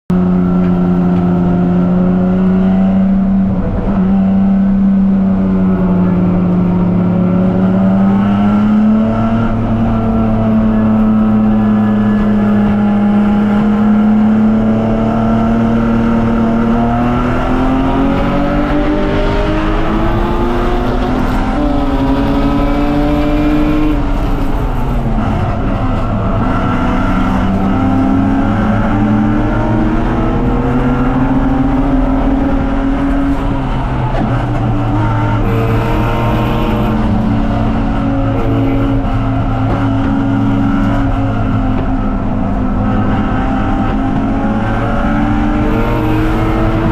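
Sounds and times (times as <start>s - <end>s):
car engine revving under load: 0.1s - 46.9s.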